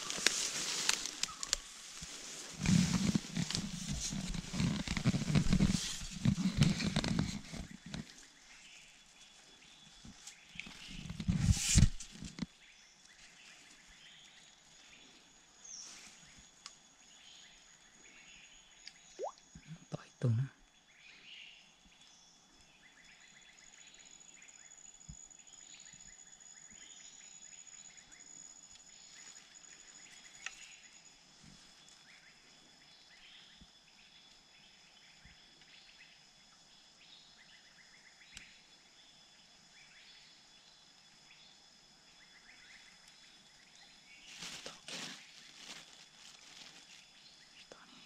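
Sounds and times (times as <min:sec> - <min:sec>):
rustle: 0:00.0 - 0:18.8, 0:21.0 - 0:48.0.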